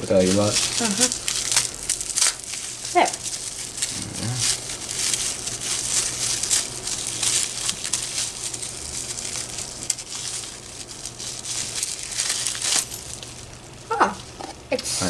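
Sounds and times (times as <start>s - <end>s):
packaging crinkling: 0.0s - 14.4s.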